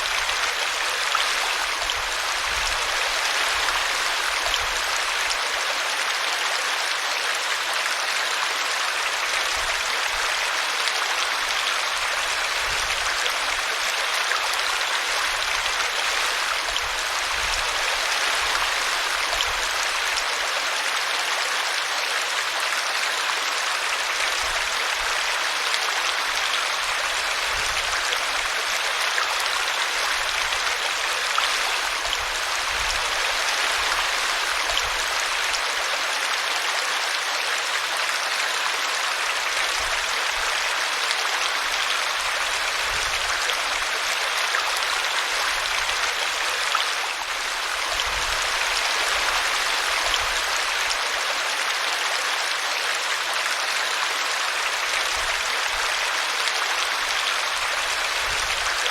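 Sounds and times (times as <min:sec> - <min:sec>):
brook running water: 0:00.0 - 0:58.9.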